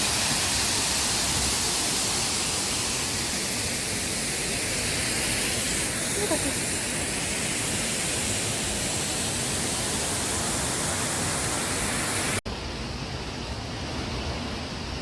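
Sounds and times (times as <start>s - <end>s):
waterfall rushing: 0.0s - 12.4s
flowing water: 0.0s - 15.0s.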